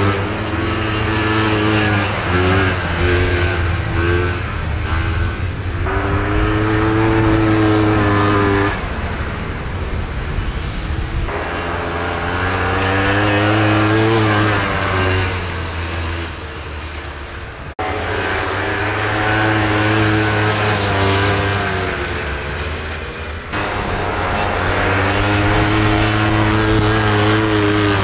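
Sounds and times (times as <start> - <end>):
snowmobile engines revving: 0.0 - 28.0.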